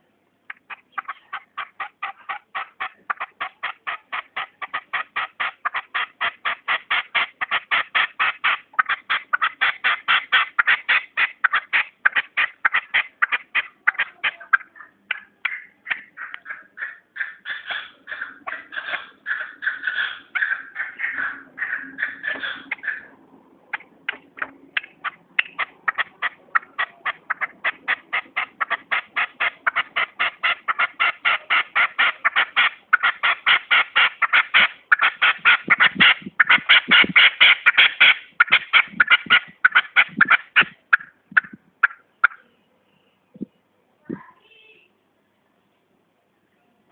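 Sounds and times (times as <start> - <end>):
partridge calling: 0.5 - 23.1, 23.7 - 42.6.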